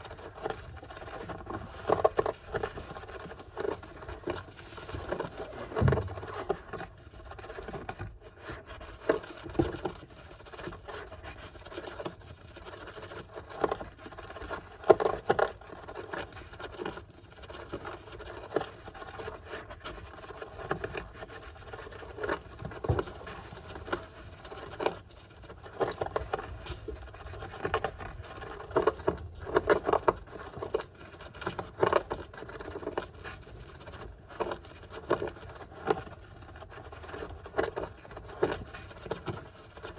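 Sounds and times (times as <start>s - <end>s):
hamster digging in sand: 0.0s - 39.9s.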